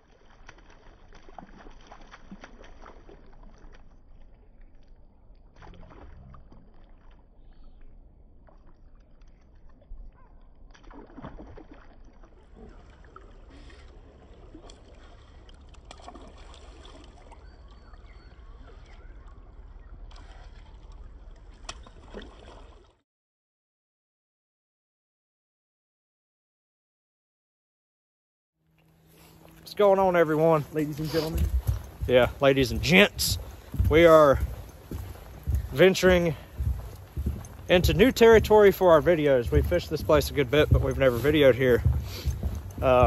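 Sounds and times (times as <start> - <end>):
water splashing: 0.0 - 23.0, 29.0 - 43.0.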